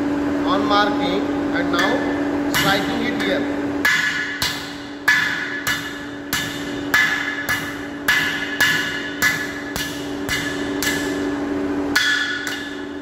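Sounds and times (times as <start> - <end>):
steady low hum: 0.0 - 13.0
hammer striking chisel on metal: 1.7 - 13.0.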